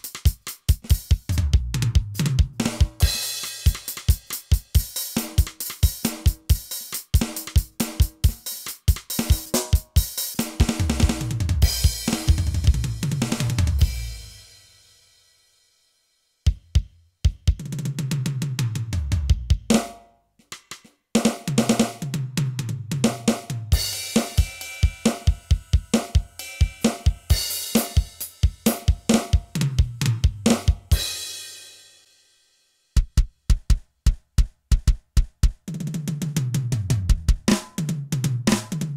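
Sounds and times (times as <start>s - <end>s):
electronic drum kit playing: 0.0s - 14.5s, 20.6s - 31.6s, 33.0s - 38.9s.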